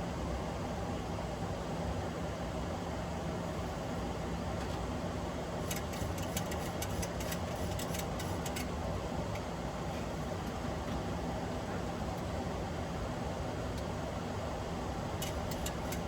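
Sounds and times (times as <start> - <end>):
airflow and air-conditioning rush: 0.0 - 16.0
low engine hum: 3.1 - 16.0.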